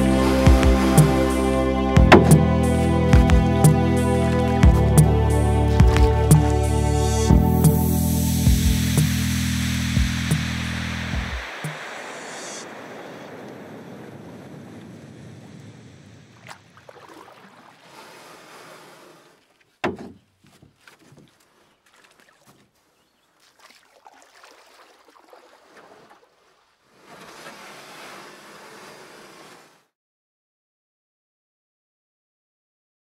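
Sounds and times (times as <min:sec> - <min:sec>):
wind and water noise: 0:00.0 - 0:29.9.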